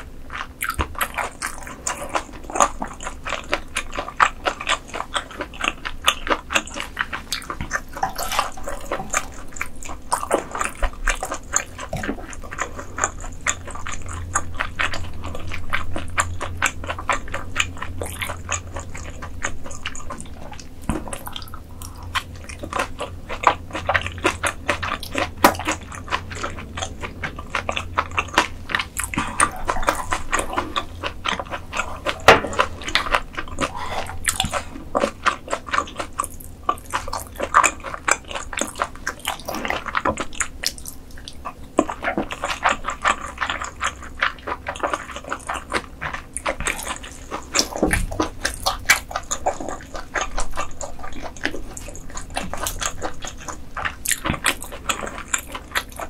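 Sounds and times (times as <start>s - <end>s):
chewing food: 0.0s - 56.0s
steady low hum: 0.0s - 56.0s.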